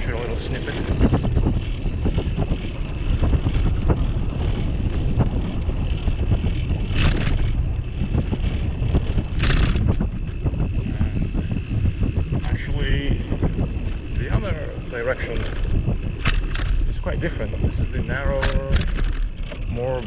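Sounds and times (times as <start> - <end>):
bike knocking: 0.0 - 20.0
wind buffeting microphone: 0.0 - 20.0.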